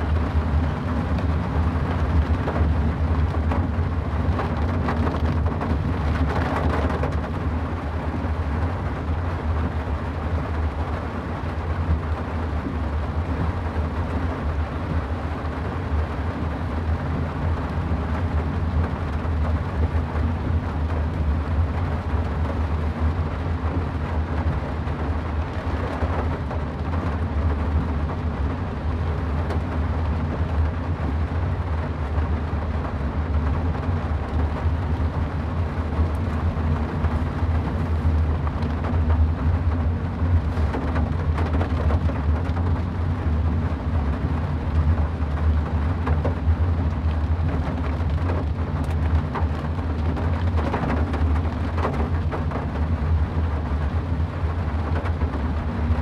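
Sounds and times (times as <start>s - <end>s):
car engine and tyres rumble: 0.0s - 56.0s
rain and road spray hiss: 0.0s - 56.0s.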